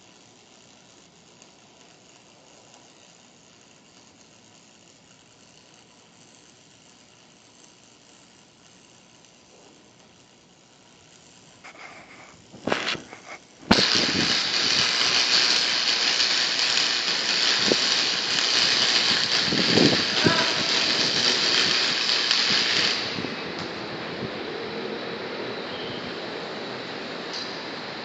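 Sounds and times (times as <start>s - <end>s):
welding arc scratchy starts: 0.0s - 28.0s
welding arc sizzling hiss: 0.0s - 28.0s.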